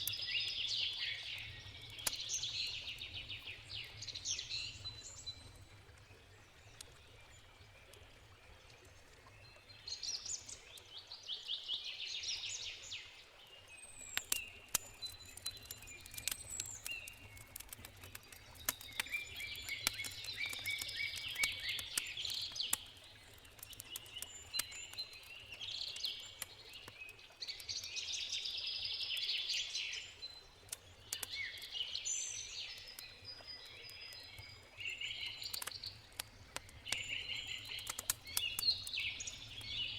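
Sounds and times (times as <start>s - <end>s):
campfire crackling and popping: 0.0s - 10.9s, 13.8s - 39.9s
songbirds singing: 0.0s - 39.9s.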